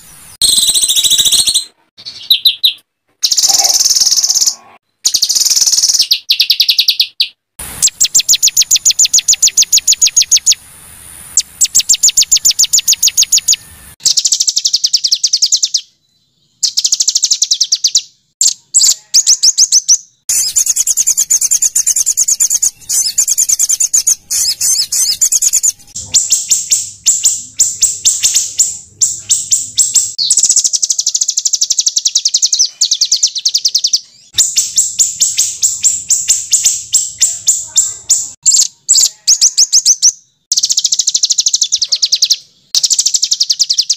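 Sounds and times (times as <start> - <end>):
songbirds' rapid repeated notes: 0.0 - 43.9.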